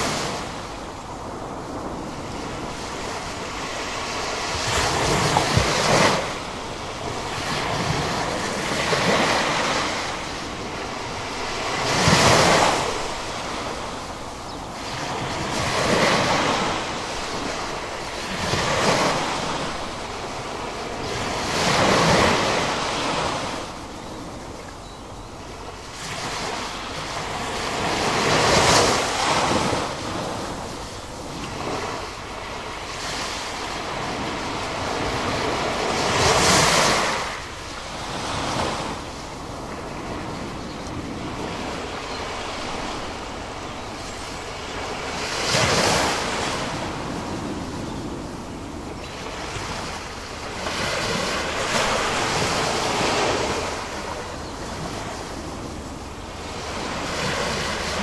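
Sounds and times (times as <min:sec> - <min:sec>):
ocean surf breaking: 0:00.0 - 0:24.7, 0:25.4 - 0:58.0.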